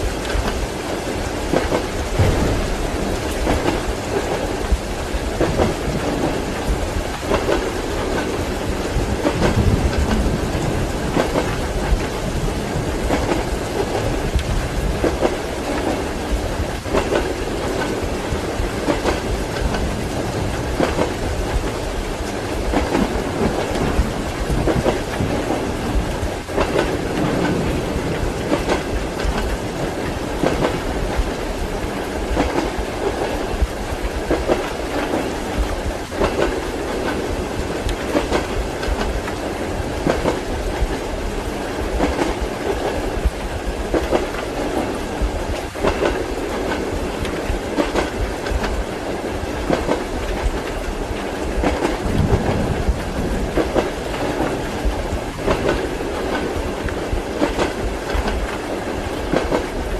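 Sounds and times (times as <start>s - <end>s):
train carriage rumble: 0.0s - 59.9s
train wheels clicking over rail joints: 0.0s - 59.9s.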